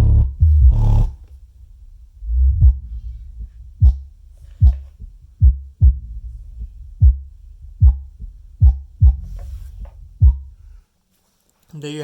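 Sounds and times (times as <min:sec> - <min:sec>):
deep bass thumps: 0:00.0 - 0:10.8
low bass rumble: 0:00.0 - 0:10.8.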